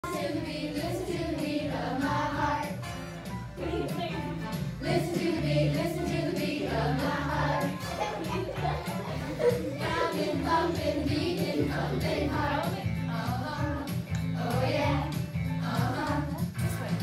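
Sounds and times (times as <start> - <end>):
children singing: 0.0 - 2.8, 4.8 - 16.5
musical accompaniment with bass: 0.0 - 17.0.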